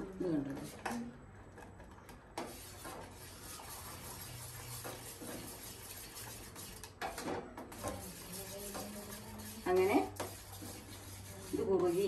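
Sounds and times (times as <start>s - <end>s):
metal spoon stirring in a saucepan: 2.3s - 12.0s.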